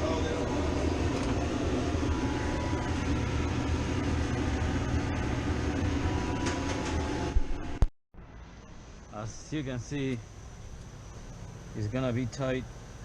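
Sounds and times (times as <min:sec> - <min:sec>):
refrigeration machinery drone: 0:00.0 - 0:13.0.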